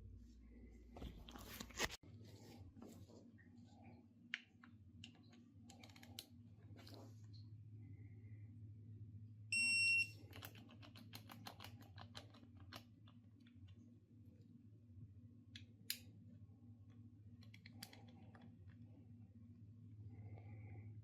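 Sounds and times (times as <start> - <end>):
steady low hum: 0.0 - 11.2, 12.4 - 21.0.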